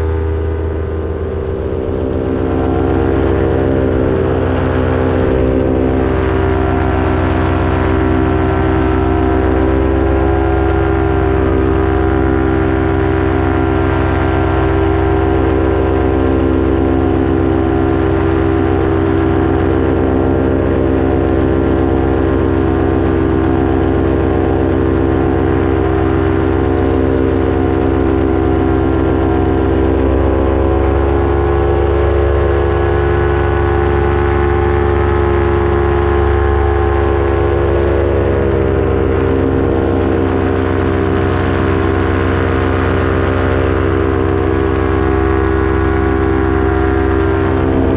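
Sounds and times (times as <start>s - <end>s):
paramotor engine and propeller droning: 0.0s - 47.9s.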